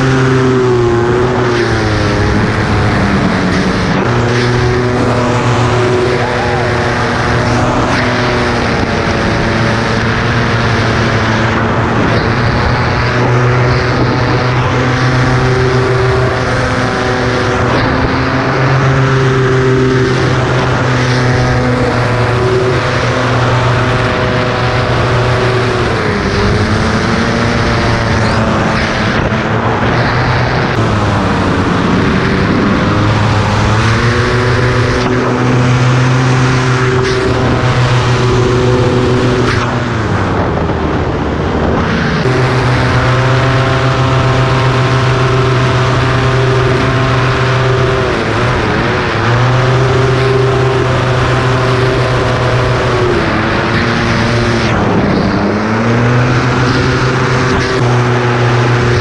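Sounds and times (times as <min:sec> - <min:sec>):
paramotor engine running: 0:00.0 - 0:59.0
propeller noise: 0:00.0 - 0:59.0
wind noise: 0:00.0 - 0:59.0.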